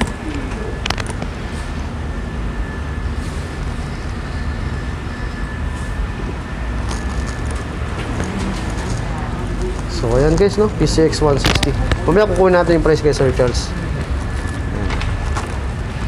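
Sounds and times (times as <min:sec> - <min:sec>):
high steady whine: 0:00.0 - 0:16.0.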